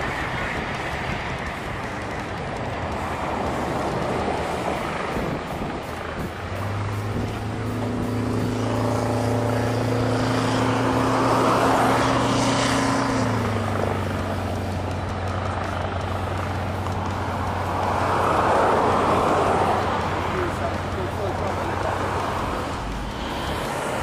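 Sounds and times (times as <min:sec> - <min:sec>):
fire truck engine humming: 0:00.0 - 0:24.0
rushing noise: 0:00.0 - 0:24.0.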